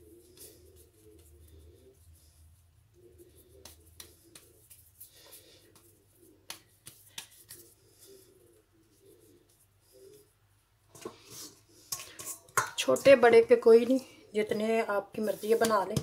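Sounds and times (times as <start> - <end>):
hands patting dough: 0.0 - 13.8, 14.5 - 16.0.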